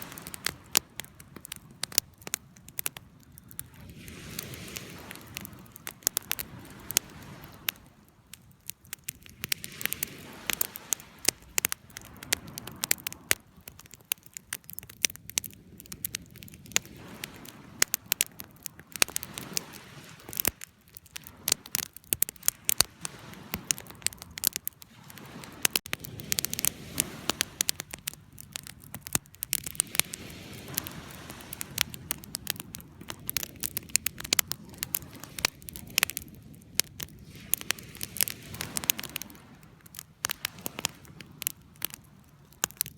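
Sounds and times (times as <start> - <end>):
campfire crackling and popping: 0.0 - 42.9
rush of flame: 3.4 - 8.0, 9.2 - 42.9.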